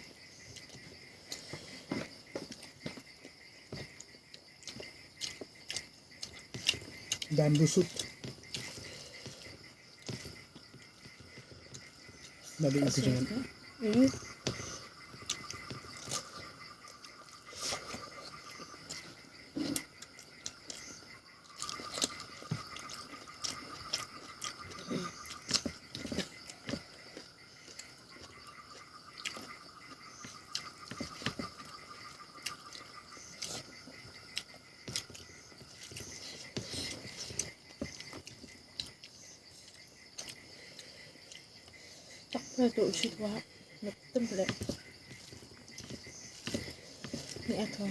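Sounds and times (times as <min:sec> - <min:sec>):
person chewing and smacking: 0:00.0 - 0:42.3, 0:44.5 - 0:47.5.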